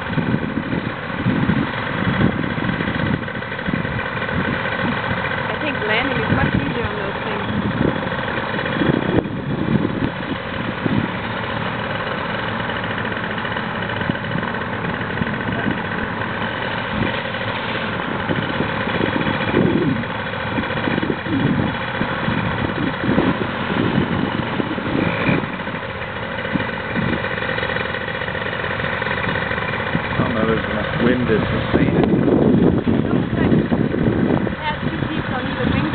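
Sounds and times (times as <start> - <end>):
paramotor engine idling: 0.0 - 35.9.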